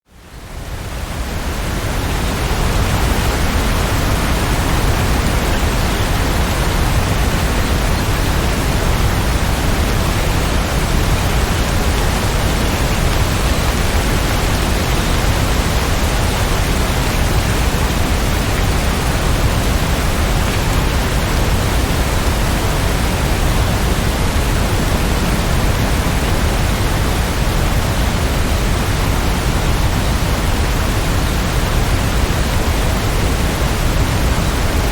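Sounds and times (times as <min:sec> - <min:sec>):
heavy rainfall: 0:00.1 - 0:34.9.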